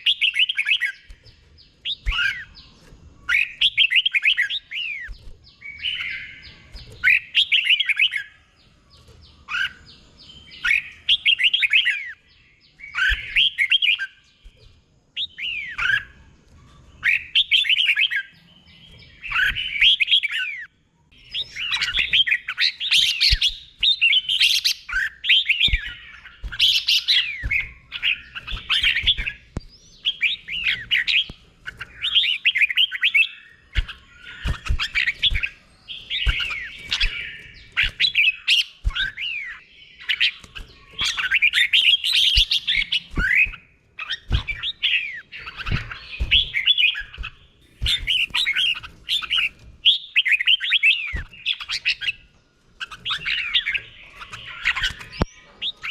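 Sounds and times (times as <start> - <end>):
bulbul singing whistled phrases: 0.0 - 16.3, 17.0 - 55.9.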